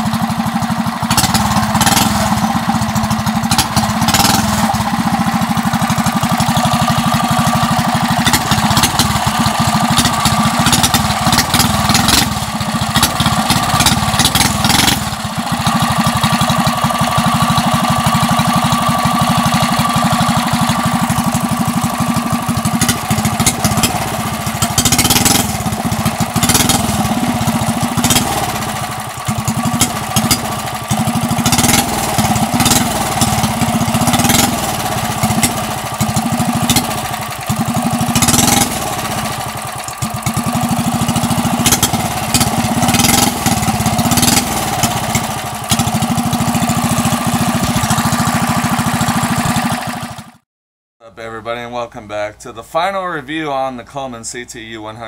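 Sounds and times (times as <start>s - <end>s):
small motorbike engine revving: 0.0s - 50.4s.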